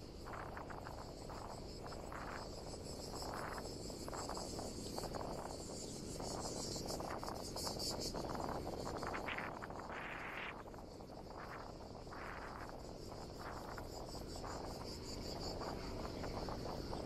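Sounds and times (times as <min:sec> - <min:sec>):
insects chirping: 0:00.0 - 0:17.0
wind: 0:00.0 - 0:17.0.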